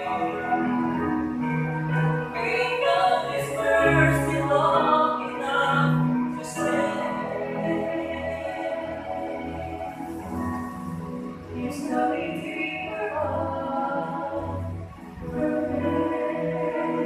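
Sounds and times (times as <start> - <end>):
person singing slow worship song: 0.0 - 17.0.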